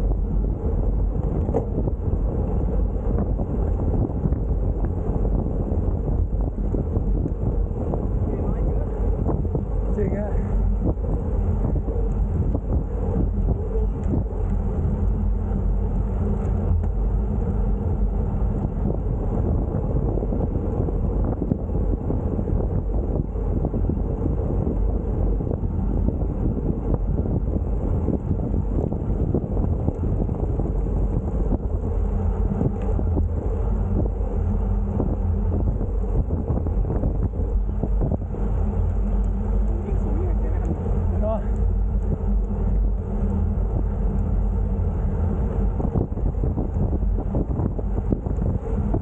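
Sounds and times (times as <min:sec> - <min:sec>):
wind rumbling on microphone: 0:00.0 - 0:49.0.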